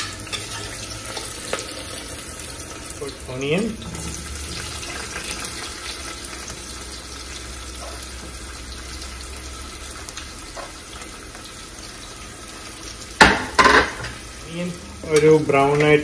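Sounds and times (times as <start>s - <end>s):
aromatics sizzling in hot oil: 0.0s - 16.0s.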